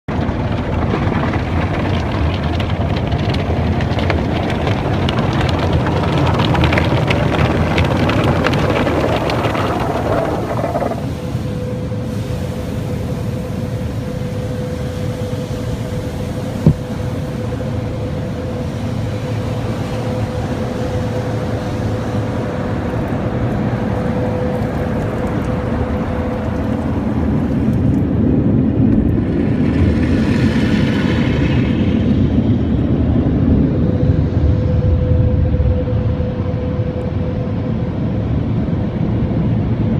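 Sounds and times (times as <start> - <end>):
car wash machinery running: 0.1 - 39.9.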